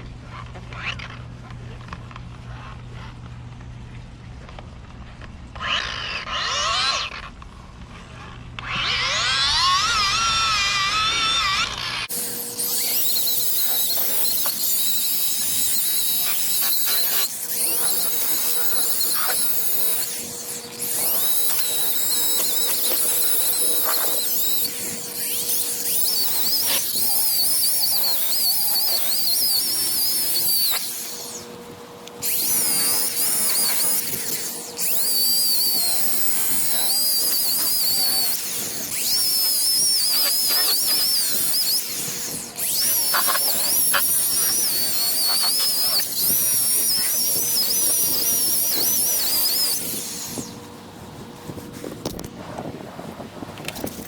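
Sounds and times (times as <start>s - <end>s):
electric buffer motor whine: 4.5s - 54.0s.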